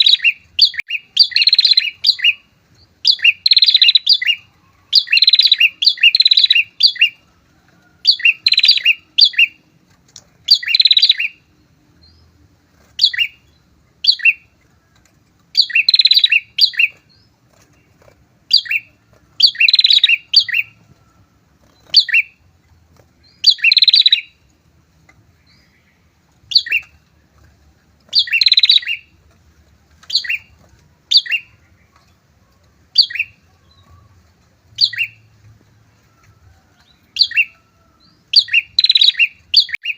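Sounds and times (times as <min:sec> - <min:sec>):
birds singing buzzy trilled chirps: 0:00.0 - 0:07.4, 0:08.0 - 0:39.9.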